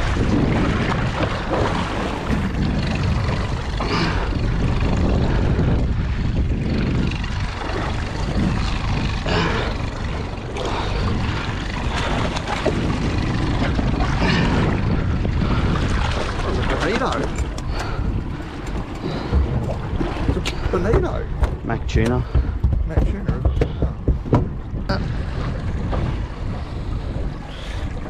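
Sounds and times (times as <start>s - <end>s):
water sloshing against hull: 0.0s - 28.0s
water splashes: 0.0s - 28.0s
wind buffeting microphone: 0.0s - 28.0s.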